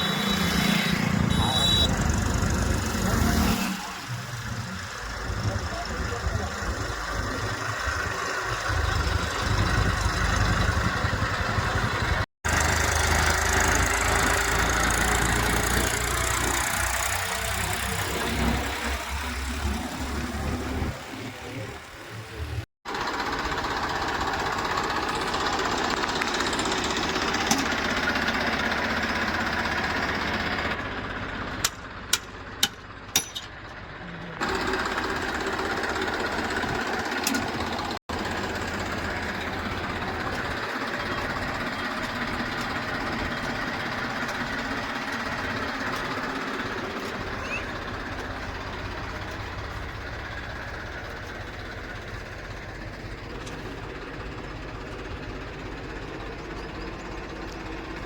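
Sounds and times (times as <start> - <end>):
diesel engine clattering: 0.0 - 58.0.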